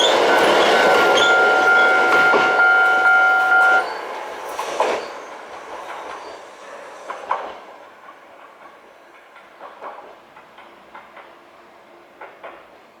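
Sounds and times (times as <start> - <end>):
train wheels clattering over rail joints: 0.0 - 12.9.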